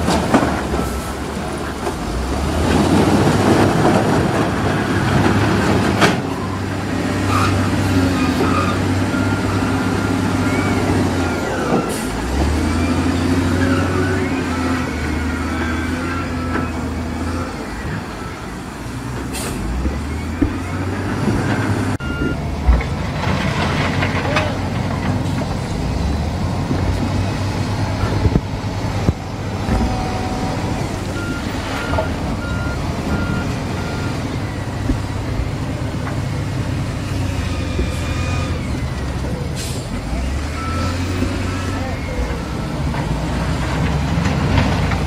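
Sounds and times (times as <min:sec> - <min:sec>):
diesel engine under load: 0:00.0 - 0:45.0.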